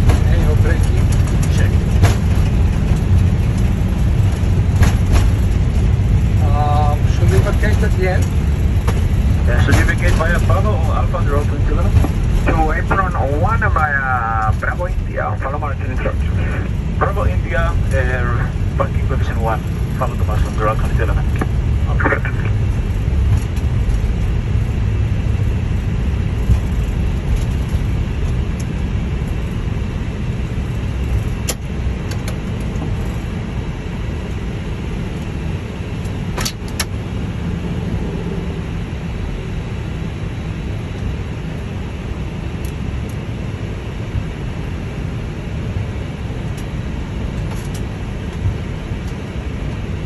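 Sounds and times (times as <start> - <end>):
airliner rolling on runway: 0.0 - 50.0.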